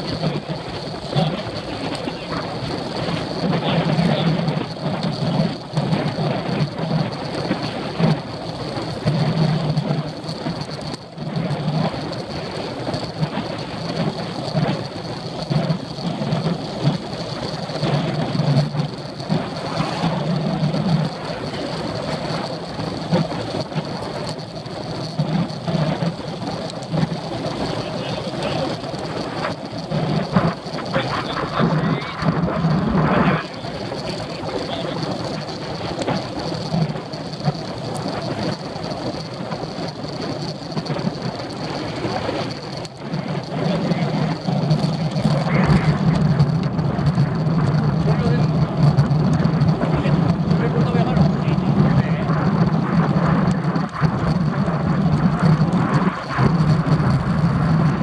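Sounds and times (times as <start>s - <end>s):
tyre and road rumble: 0.0s - 58.0s
wind rushing over microphone: 0.0s - 58.0s.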